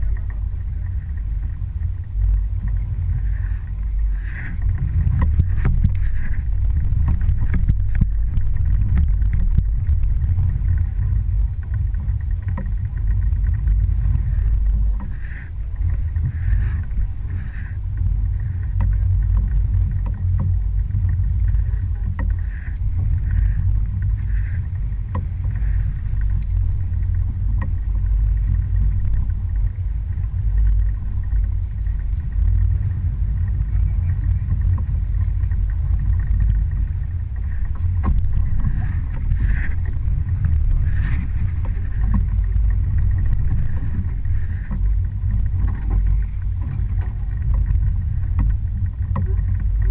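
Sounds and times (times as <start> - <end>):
boat motor rumbling: 0.0 - 49.9
water rushing against hull: 0.0 - 49.9.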